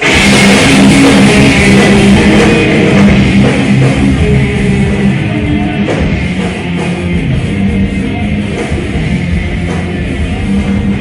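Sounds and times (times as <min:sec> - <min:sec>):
distorted electric guitars: 0:00.0 - 0:11.0
drum kit playing: 0:00.0 - 0:11.0.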